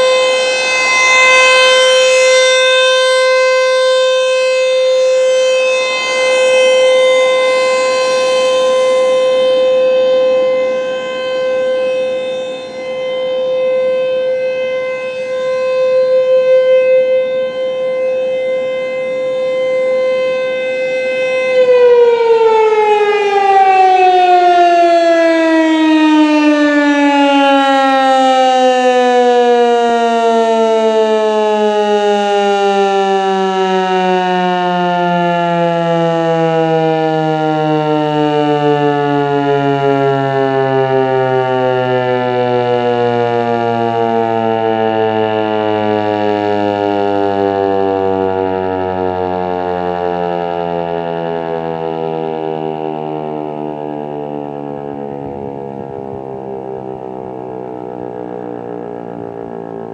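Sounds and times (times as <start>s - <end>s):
outdoor warning siren: 0.0s - 59.9s.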